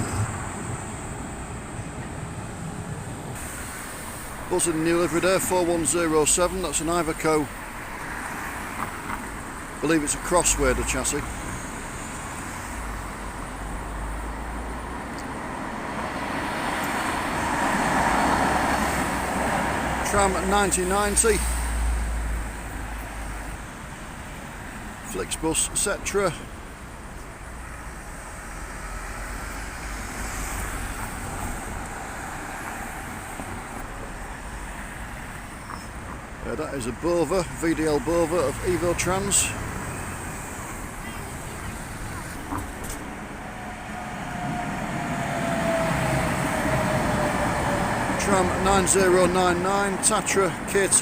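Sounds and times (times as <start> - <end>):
passing vehicles hum: 0.0 - 51.0
traffic driving past: 0.0 - 51.0.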